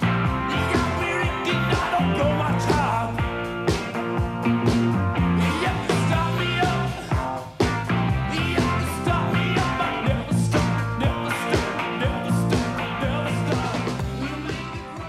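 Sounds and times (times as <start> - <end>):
background music with bass and drums: 0.0 - 15.0.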